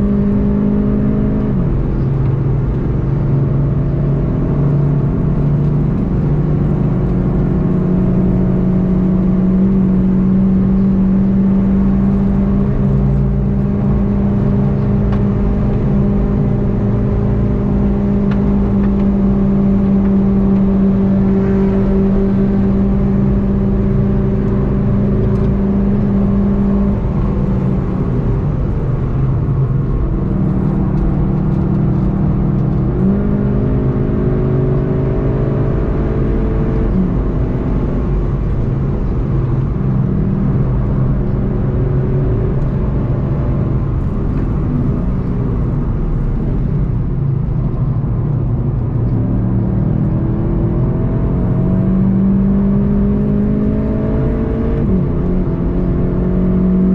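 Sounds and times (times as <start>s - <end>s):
car engine running under load: 0.0s - 56.9s
road and wind noise: 0.0s - 56.9s.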